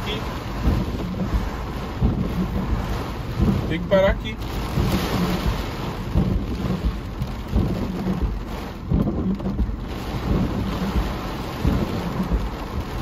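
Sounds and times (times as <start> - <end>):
low rumble: 0.0 - 13.0
rain drumming on car roof: 0.0 - 13.0
dull thumps: 0.4 - 3.9, 4.5 - 13.0.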